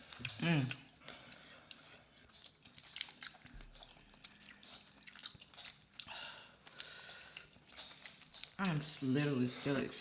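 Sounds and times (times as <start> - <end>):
lip and teeth clicks: 0.0 - 9.0
person chewing: 0.0 - 10.0.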